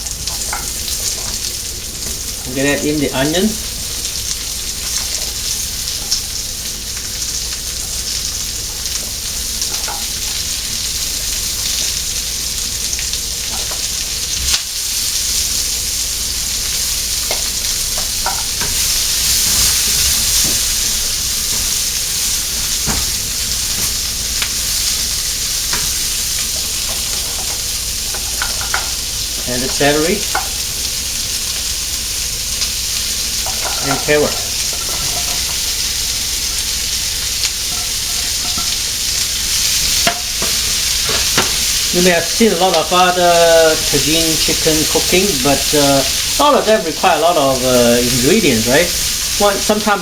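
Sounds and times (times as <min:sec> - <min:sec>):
onion sizzling in hot oil: 0:00.0 - 0:50.0.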